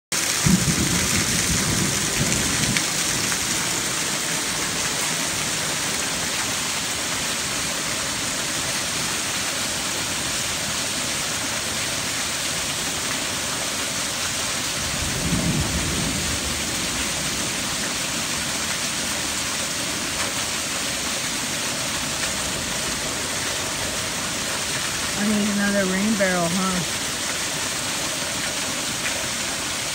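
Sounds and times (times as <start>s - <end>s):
heavy rain hiss: 0.2s - 29.9s.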